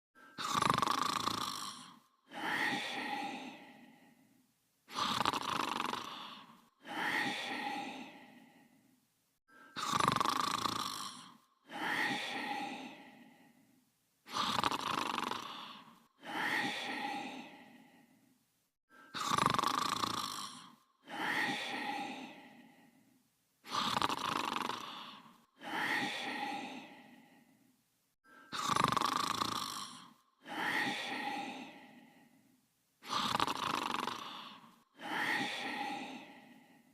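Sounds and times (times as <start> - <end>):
cartoon character snoring: 0.2 - 4.3, 4.9 - 8.8, 9.6 - 13.7, 14.3 - 18.2, 19.0 - 23.0, 23.6 - 27.6, 28.3 - 32.4, 33.0 - 36.9.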